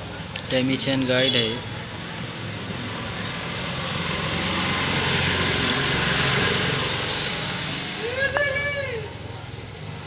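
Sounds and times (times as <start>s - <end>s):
passing vehicle engine: 0.0s - 10.0s.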